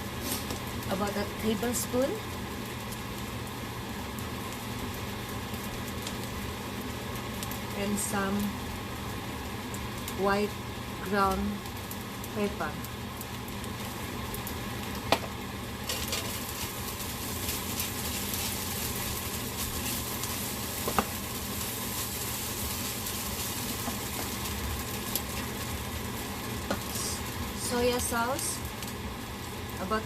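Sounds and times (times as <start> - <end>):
rice sizzling in a pan: 0.0 - 30.0.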